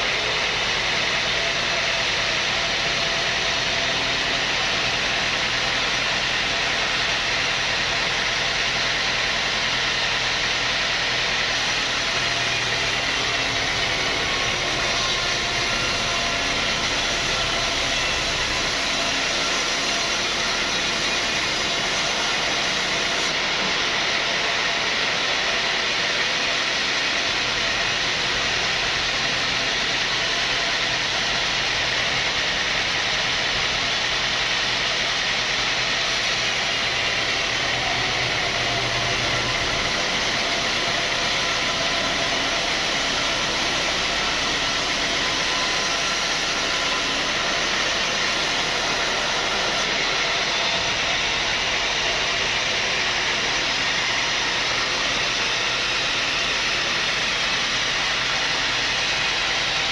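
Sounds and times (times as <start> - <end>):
sawmill saw cutting a log: 0.0 - 59.9.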